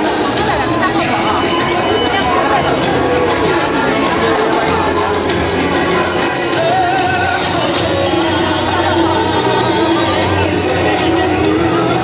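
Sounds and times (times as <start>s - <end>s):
parade music: 0.0s - 12.0s
person singing: 0.0s - 12.0s.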